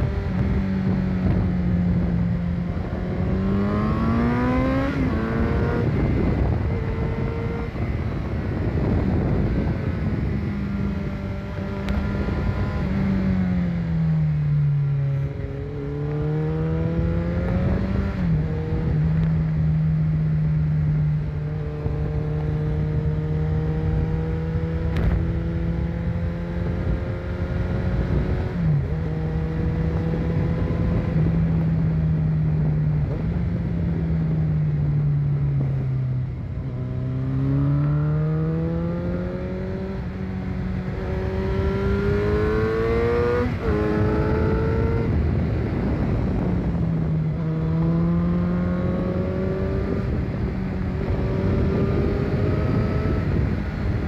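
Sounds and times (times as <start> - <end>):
wind noise: 0.0 - 54.0.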